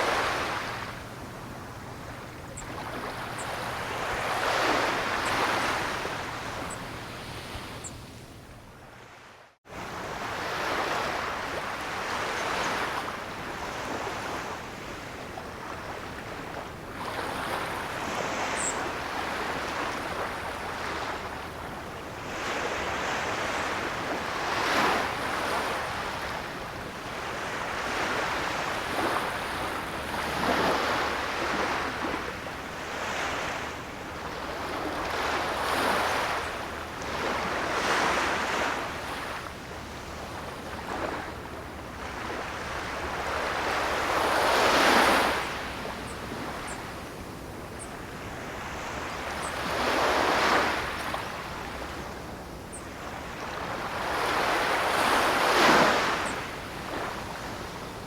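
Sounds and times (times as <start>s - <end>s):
ocean waves breaking on shore: 0.0s - 58.0s.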